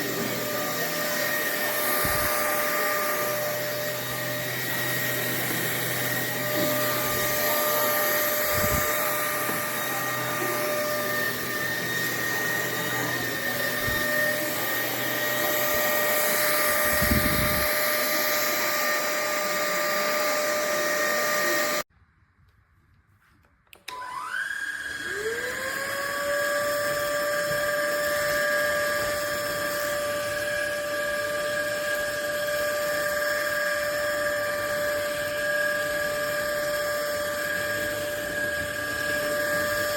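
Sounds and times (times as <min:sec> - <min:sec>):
vacuum cleaner motor whining: 0:00.0 - 0:21.9, 0:23.8 - 0:39.9.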